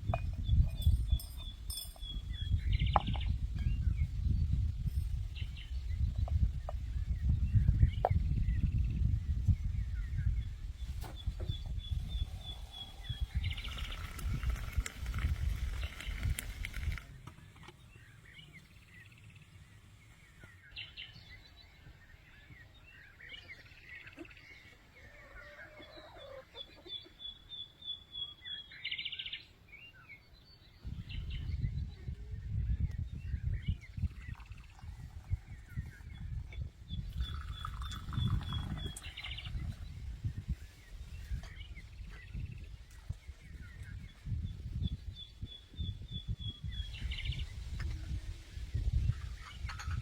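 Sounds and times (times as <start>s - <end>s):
bird chirps: 0.1s - 4.3s, 9.7s - 47.8s.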